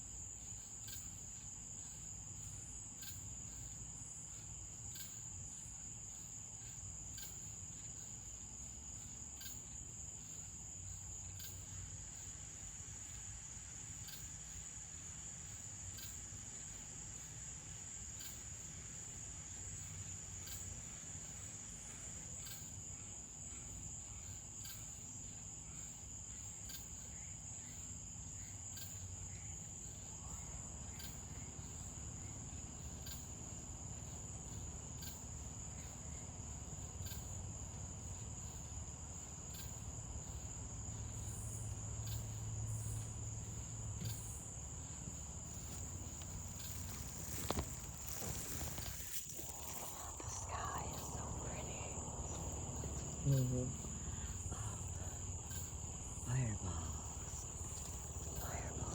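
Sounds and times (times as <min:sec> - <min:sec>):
night insects trilling: 0:00.0 - 0:58.9.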